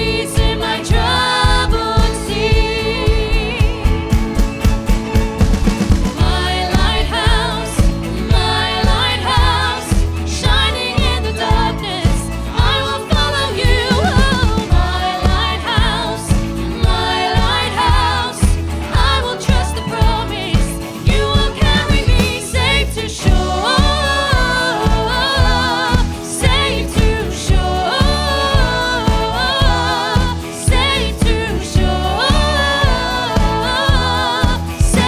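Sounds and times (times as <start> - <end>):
person singing: 0.0 - 4.6, 6.0 - 35.0
band with steady beat: 0.0 - 22.6, 23.3 - 35.0.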